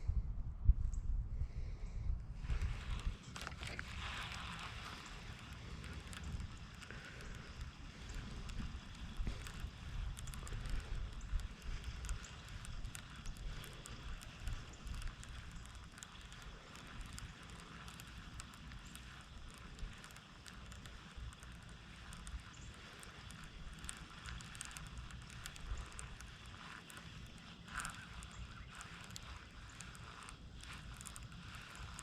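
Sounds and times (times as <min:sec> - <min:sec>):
wind buffeting microphone: 0:00.0 - 0:32.0
faint clicks and ticks: 0:01.8 - 0:32.0.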